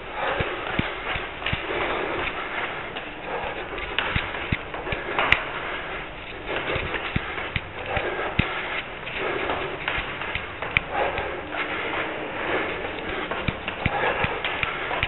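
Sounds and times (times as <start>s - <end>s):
footsteps running up stairs: 0.0s - 15.0s
steady rushing noise: 0.0s - 15.0s.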